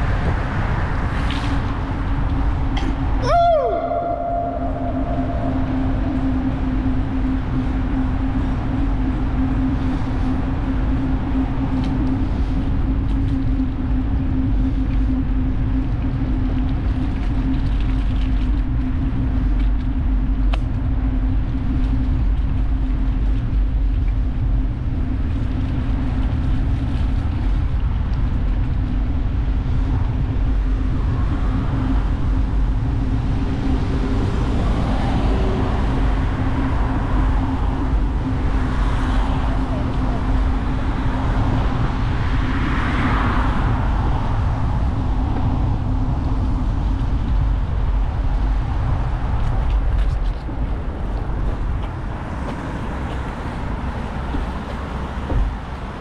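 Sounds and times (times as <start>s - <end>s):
bicycle road noise: 0.0s - 56.0s
steady low hum: 0.0s - 56.0s
wind rumble on microphone: 0.0s - 56.0s.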